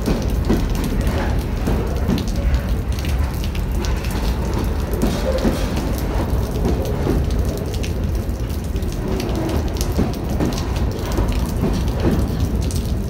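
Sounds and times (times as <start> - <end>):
freight cars rumbling on rails: 0.0 - 13.0.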